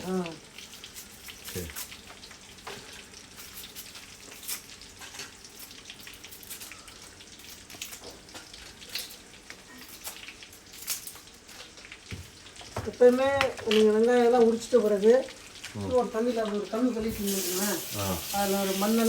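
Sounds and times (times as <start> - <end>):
chicken sizzling in hot oil: 0.0 - 19.0
oil crackles and pops: 0.0 - 19.0.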